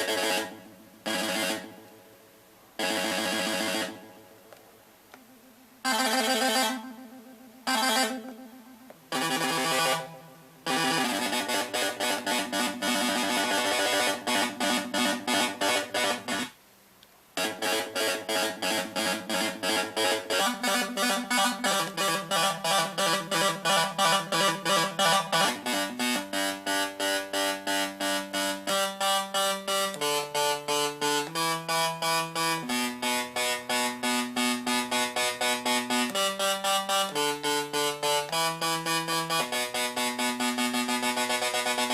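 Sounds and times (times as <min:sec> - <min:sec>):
buzzy pulsing synthesizer tone: 0:02.8 - 0:04.2, 0:05.9 - 0:16.6, 0:17.4 - 0:41.9.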